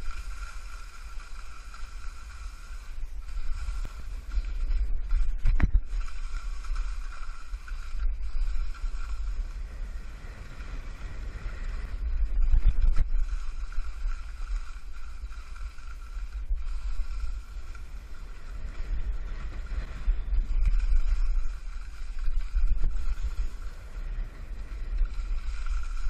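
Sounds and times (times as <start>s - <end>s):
skis sliding over snow: 0.0s - 26.0s
wind buffeting microphone: 0.0s - 26.0s.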